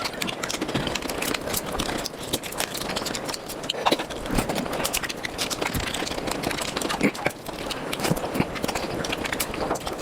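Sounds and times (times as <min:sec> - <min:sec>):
wet chewing and smacking: 0:00.0 - 0:10.0.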